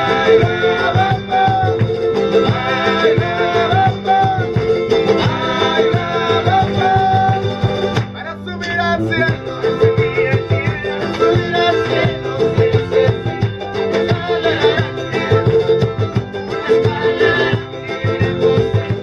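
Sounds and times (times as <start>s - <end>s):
latin music with plucked strings: 0.0s - 19.0s.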